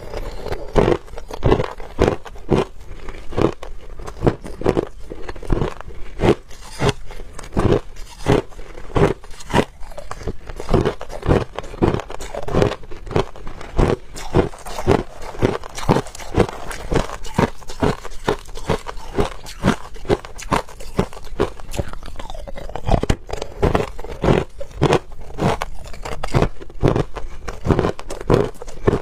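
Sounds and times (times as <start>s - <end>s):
crushed ice being chewed: 0.0s - 29.0s.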